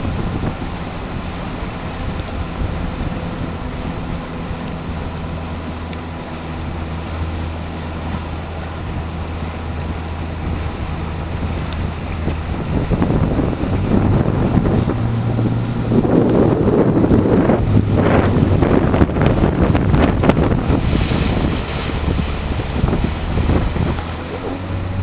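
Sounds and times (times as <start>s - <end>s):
low hum: 0.0s - 25.0s
water rushing past boat: 0.0s - 25.0s
wind buffeting microphone: 0.0s - 25.0s.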